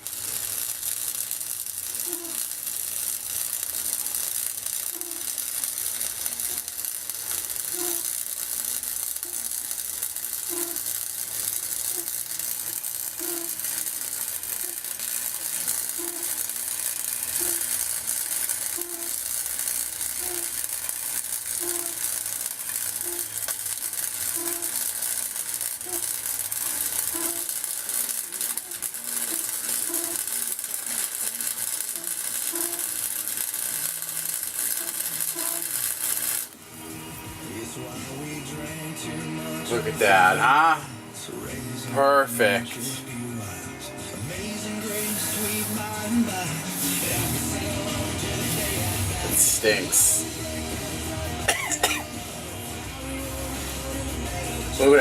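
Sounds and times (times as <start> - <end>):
arc welder crackling sizzle: 0.0 - 55.0.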